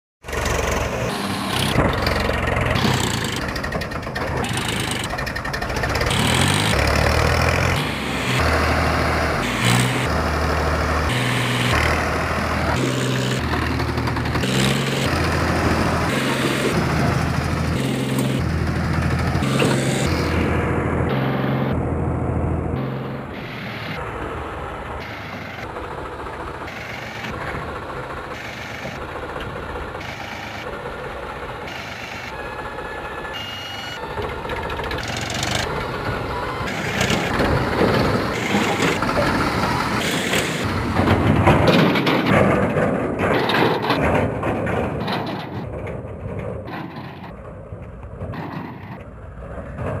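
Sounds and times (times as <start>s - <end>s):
tractor diesel engine running: 0.2s - 50.0s.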